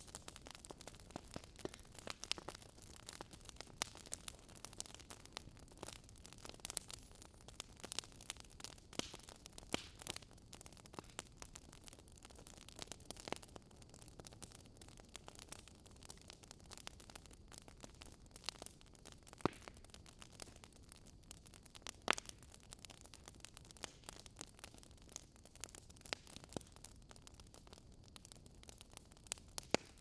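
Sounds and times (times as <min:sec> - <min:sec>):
low steady hiss: 0:00.0 - 0:30.0
wood fire crackling: 0:00.0 - 0:30.0.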